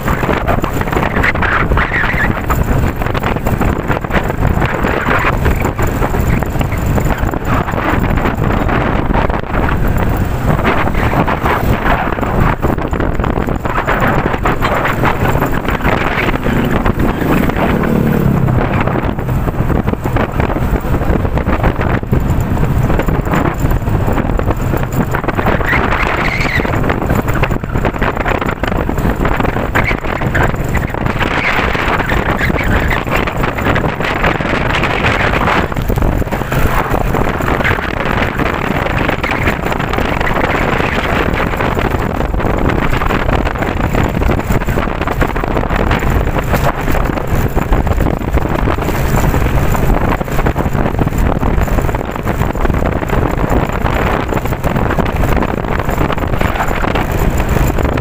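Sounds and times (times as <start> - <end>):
strong wind buffeting microphone: 0.0 - 58.0.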